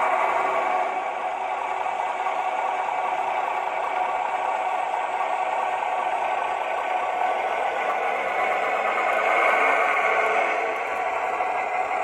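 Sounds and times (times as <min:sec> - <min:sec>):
diesel railcar engine from loudspeaker: 0:00.0 - 0:12.0.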